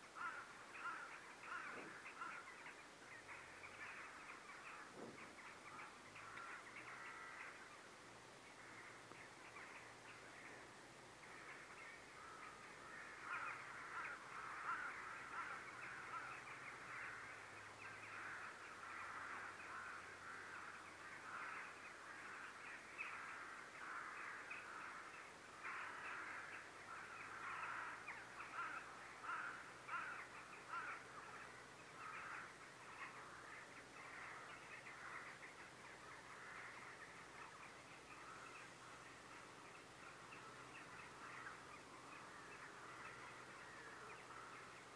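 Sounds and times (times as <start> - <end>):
distant crows cawing: 0.0 - 44.9.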